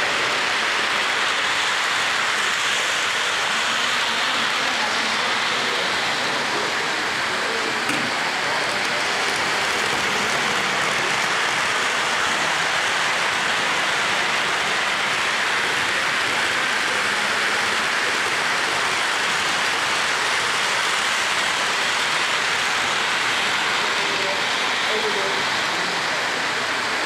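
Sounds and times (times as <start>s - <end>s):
model trains rolling on track: 0.0s - 27.0s.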